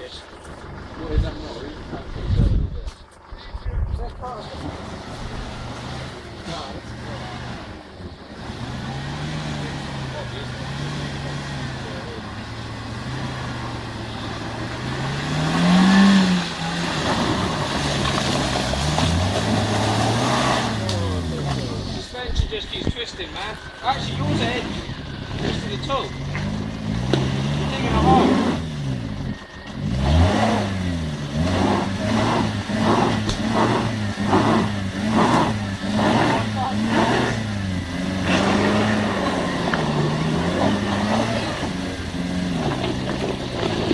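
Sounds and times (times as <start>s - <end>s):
off-road vehicle engine revving: 0.0s - 43.9s
tyres spinning and churning ground: 0.0s - 43.9s.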